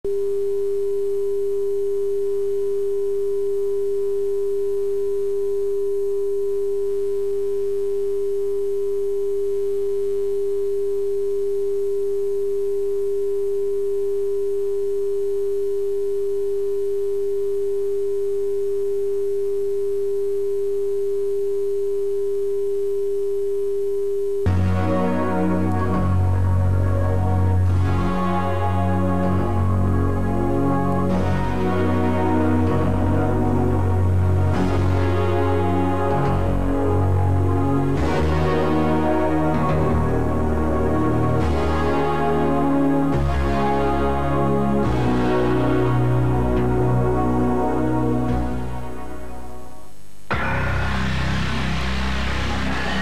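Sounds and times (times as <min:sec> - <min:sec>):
steady pure test tone: 0:00.0 - 0:53.0.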